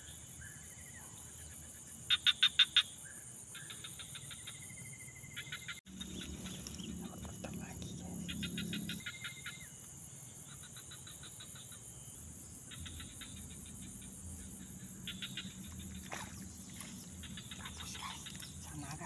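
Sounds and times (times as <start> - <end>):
high-pitched insect hum: 0.0 - 19.0
insects chirping in pulses: 0.0 - 19.0.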